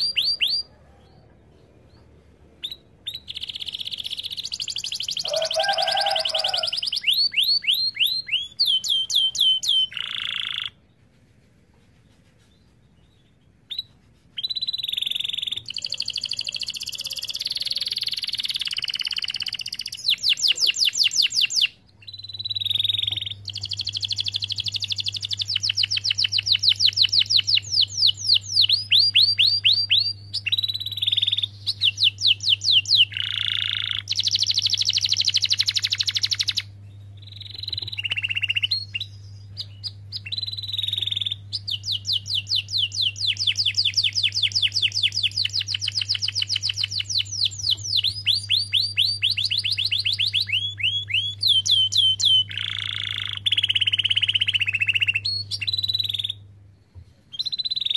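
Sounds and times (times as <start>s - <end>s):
canary singing trills: 0.0s - 11.0s, 12.0s - 56.6s, 57.3s - 57.9s
low steady hum: 0.0s - 14.3s, 15.0s - 57.9s.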